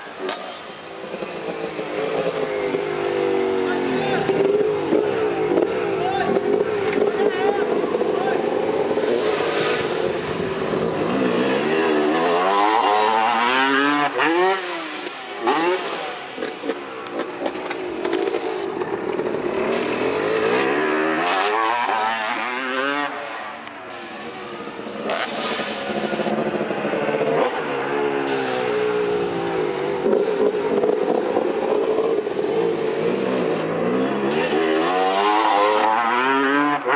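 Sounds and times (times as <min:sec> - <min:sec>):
motocross bikes revving: 0:00.0 - 0:36.9.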